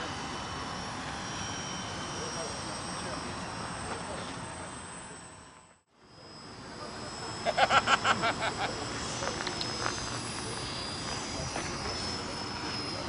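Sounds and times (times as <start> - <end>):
loud pitched pulses: 0.0 - 13.0
model airplane engine whine: 0.0 - 13.0.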